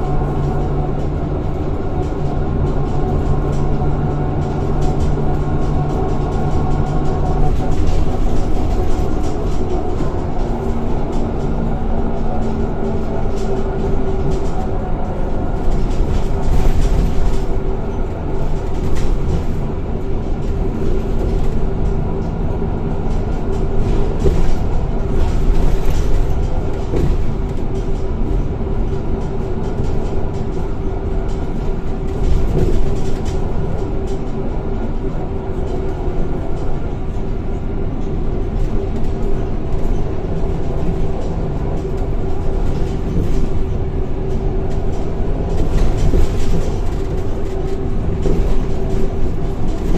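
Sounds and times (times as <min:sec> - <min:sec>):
body rattles and knocks: 0:00.0 - 0:49.9
bus engine running: 0:00.0 - 0:49.9
constant whine: 0:00.0 - 0:49.9
low road rumble: 0:00.0 - 0:49.9.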